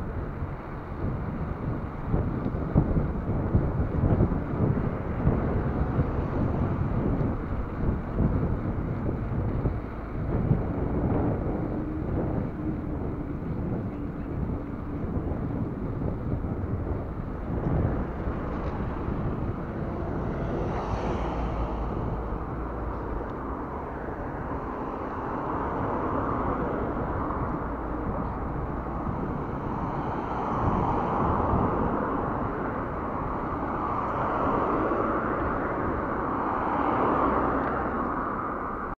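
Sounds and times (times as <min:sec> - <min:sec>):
road noise: 0:00.0 - 0:39.0
traffic: 0:00.0 - 0:39.0
wind on camera microphone: 0:00.0 - 0:39.0.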